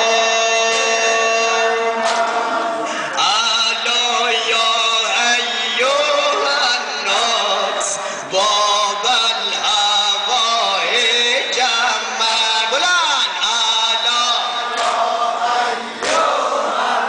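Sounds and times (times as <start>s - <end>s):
man chanting a lament: 0.0s - 14.8s.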